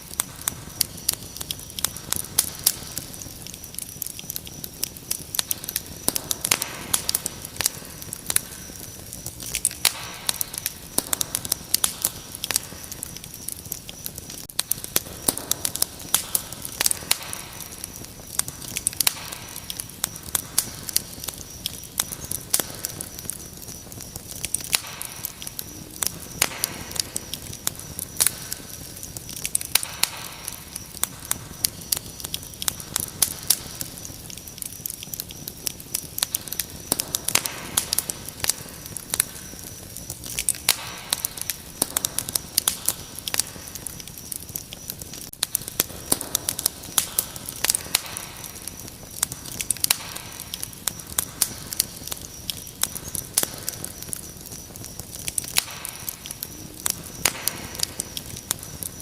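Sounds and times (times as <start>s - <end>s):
wood fire crackling and popping: 0.0s - 59.0s
cricket trill: 0.1s - 59.0s.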